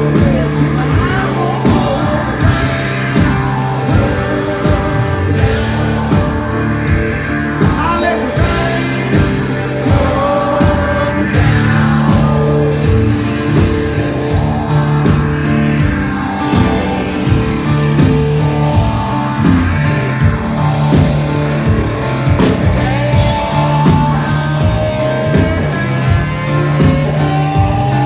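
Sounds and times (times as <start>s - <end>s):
bass notes: 0.0s - 28.0s
drum strikes: 0.0s - 28.0s
electric guitar lines: 0.0s - 28.0s.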